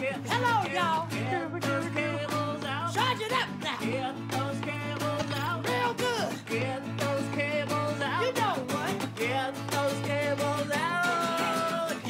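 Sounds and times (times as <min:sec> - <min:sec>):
guitar playing: 0:00.0 - 0:12.0
woman singing: 0:00.0 - 0:12.0.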